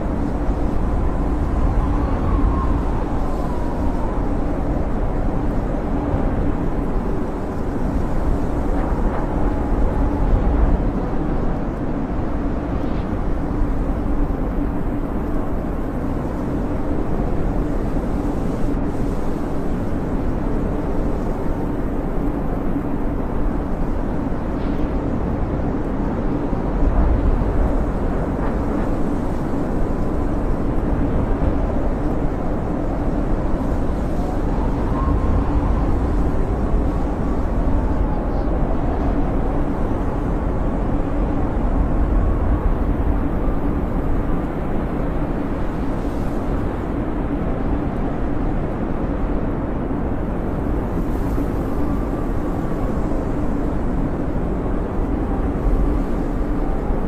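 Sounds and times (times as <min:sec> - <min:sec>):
snowstorm wind blowing: 0:00.0 - 0:57.0.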